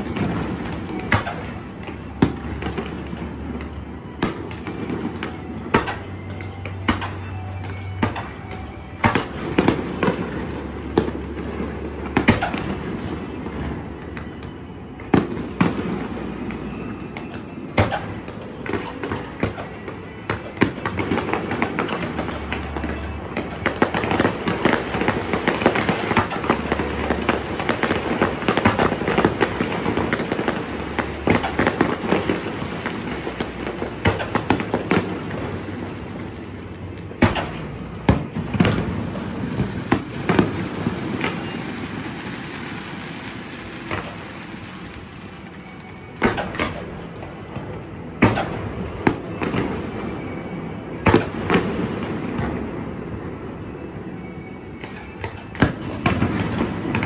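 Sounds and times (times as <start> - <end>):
rapid firework crackling: 0.0 - 57.0.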